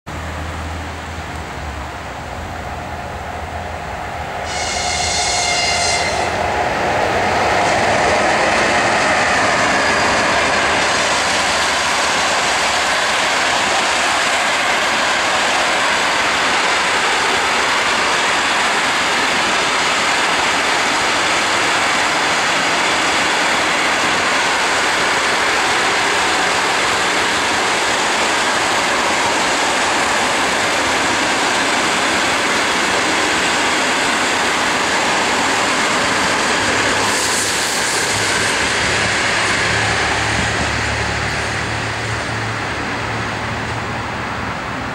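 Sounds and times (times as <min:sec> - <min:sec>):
electric locomotive passing: 0:00.1 - 0:44.9
train coaches rolling past: 0:00.1 - 0:44.9.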